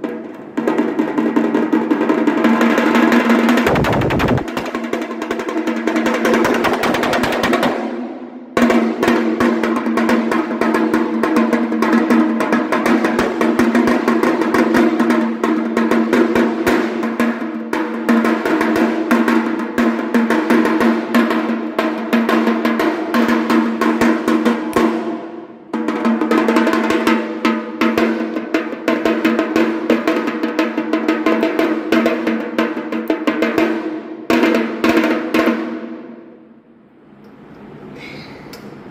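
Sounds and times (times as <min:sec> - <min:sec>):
drum rolls with sticks: 0:00.0 - 0:36.2.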